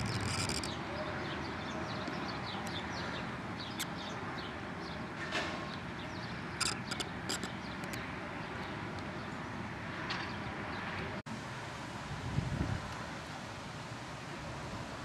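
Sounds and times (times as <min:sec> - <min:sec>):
distant traffic: 0:00.0 - 0:15.0
wind: 0:00.0 - 0:15.0.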